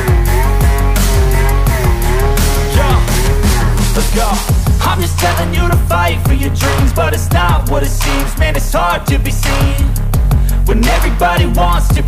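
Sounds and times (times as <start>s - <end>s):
hip-hop beat with hi-hats: 0.0s - 12.0s
sliding bass notes: 0.0s - 12.0s
vocal line: 0.0s - 12.0s.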